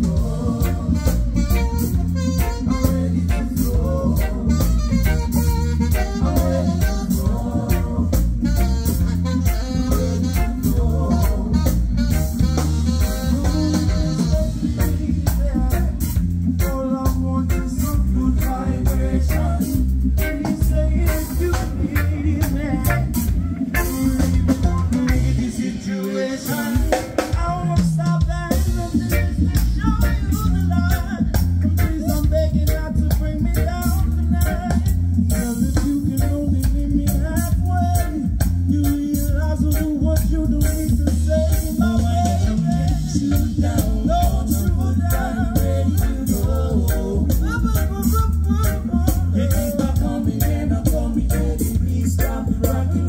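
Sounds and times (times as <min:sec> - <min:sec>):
bass: 0:00.0 - 0:53.0
drum kit: 0:00.0 - 0:53.0
electric guitar: 0:00.0 - 0:53.0
keyboards: 0:00.0 - 0:53.0.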